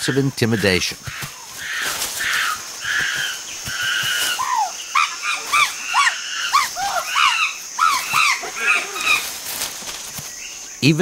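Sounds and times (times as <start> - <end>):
chimpanzees hooting: 0.0 - 9.4
chimpanzees screaming: 0.0 - 9.4.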